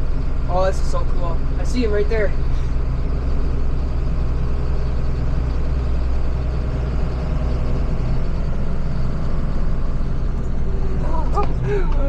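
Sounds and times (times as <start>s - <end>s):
road and wind noise: 0.0s - 12.0s
tractor engine running: 0.0s - 12.0s.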